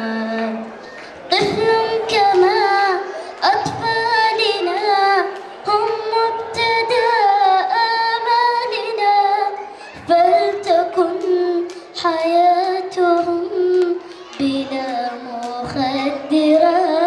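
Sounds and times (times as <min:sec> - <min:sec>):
girl singing into a microphone: 0:00.0 - 0:17.0.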